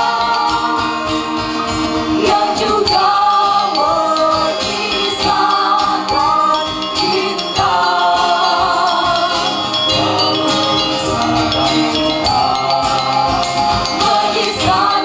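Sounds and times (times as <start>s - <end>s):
group singing in harmony: 0.0s - 15.0s.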